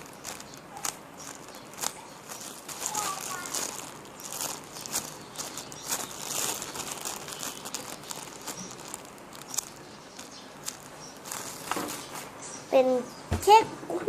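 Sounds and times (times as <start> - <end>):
small irregular clicks: 0.0 - 11.9
plastic crinkling and rustling: 0.0 - 12.4.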